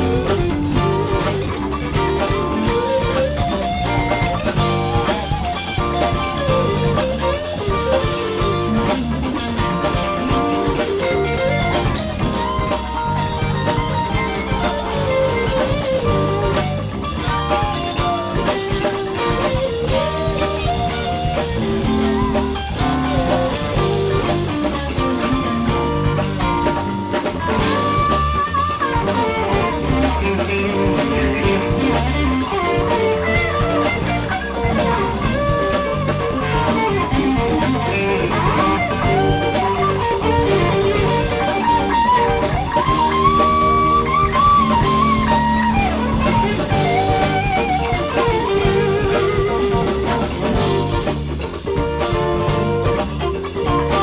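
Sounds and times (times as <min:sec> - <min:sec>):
blues-rock electric guitar: 0:00.0 - 0:54.0
drum kit: 0:00.0 - 0:54.0.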